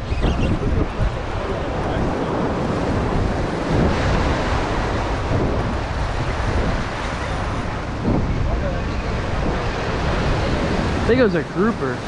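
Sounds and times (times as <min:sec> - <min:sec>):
surf washing against jetty: 0:00.0 - 0:12.0
wind noise on microphone: 0:00.0 - 0:12.0.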